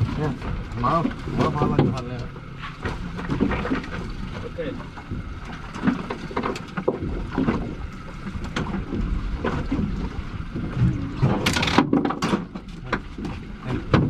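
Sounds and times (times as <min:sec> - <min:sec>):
low boat rumble: 0:00.0 - 0:14.0
water noise: 0:00.0 - 0:14.0
wind: 0:00.0 - 0:14.0.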